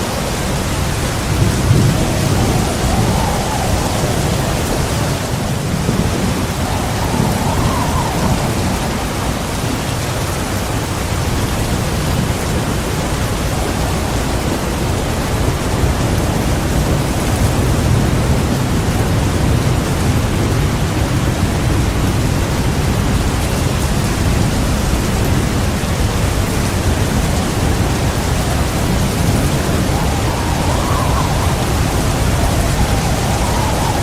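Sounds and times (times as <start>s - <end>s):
heavy rain: 0.0s - 34.0s
thunder rumble: 0.0s - 34.0s
wind: 0.0s - 34.0s.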